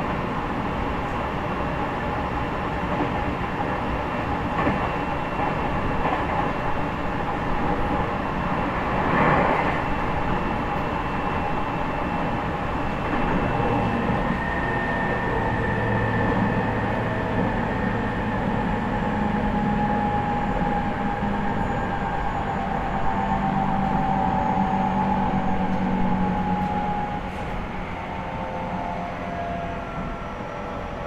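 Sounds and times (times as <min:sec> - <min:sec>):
train wheel and rail noise: 0:00.0 - 0:31.0.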